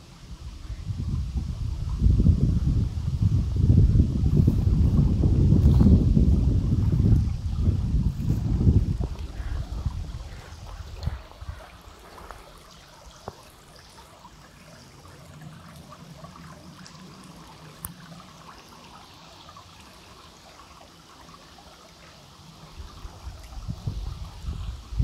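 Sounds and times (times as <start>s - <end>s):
stream babbling over stones: 0.0s - 25.0s.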